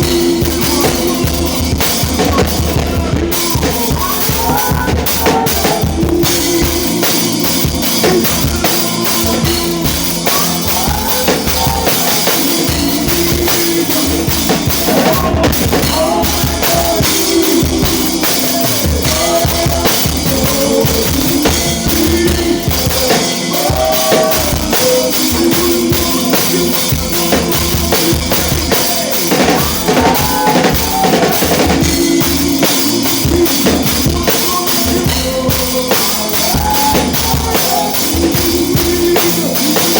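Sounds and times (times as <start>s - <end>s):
band playing instrumental groove: 0.0s - 39.9s
drum kit kick and snare hits: 0.0s - 39.9s.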